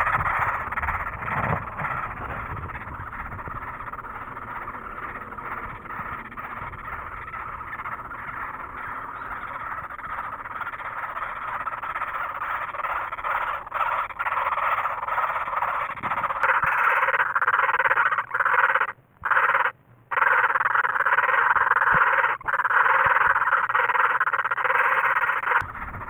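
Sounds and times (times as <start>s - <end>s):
bird nestlings churring: 0.0s - 26.0s.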